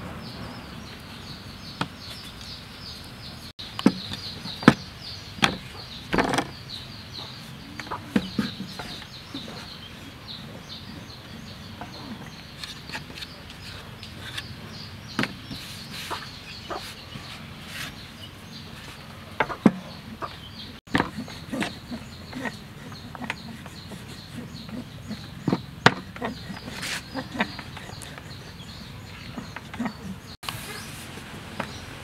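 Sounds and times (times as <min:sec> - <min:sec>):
chickens clucking: 0:00.0 - 0:31.0
high chirping: 0:00.1 - 0:31.0.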